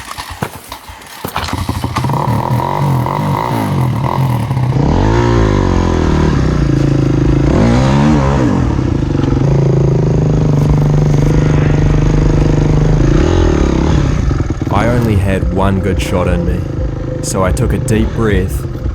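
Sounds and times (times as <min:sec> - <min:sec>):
dirt bike engine revving: 0:01.4 - 0:18.9.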